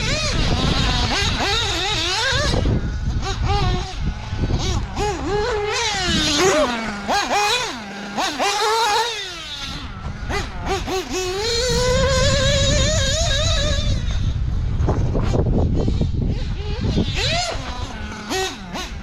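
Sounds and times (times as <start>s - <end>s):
nitro engine revving: 0.0s - 19.0s.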